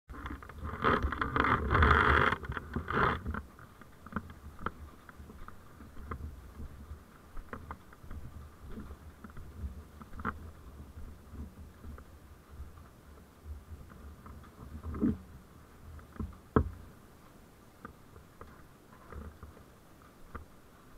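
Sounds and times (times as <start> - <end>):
vehicle low rumble: 0.1 - 20.9.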